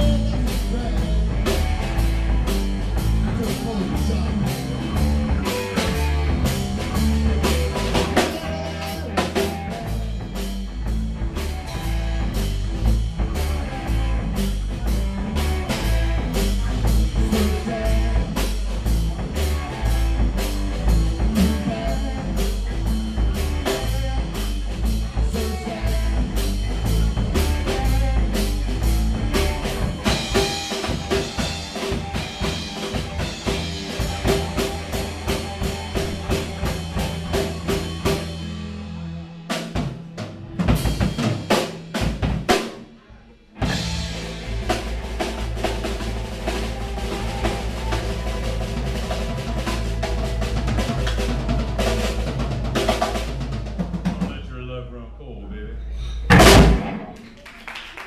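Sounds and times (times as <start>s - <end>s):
drum kit beat: 0.0s - 43.0s, 43.6s - 54.5s, 56.3s - 58.0s
electric guitars: 0.0s - 54.2s.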